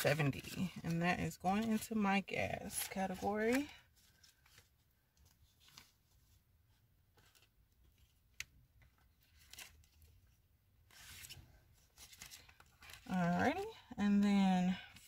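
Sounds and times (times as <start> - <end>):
paper bills rustling: 0.0 - 6.3, 7.1 - 13.9.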